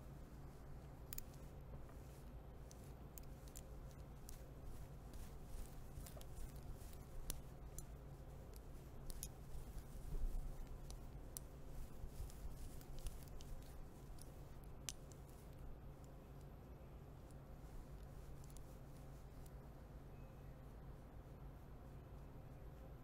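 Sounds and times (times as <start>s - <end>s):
metal rings scratching through fur: 0.0s - 16.2s, 17.2s - 19.7s
low steady hum: 0.0s - 23.0s.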